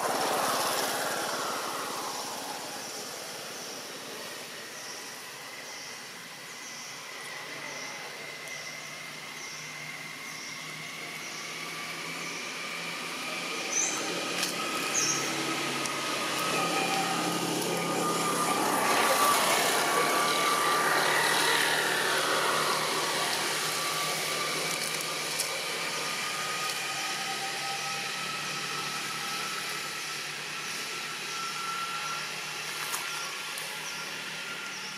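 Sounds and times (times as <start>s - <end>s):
motor drone: 0.0s - 34.9s.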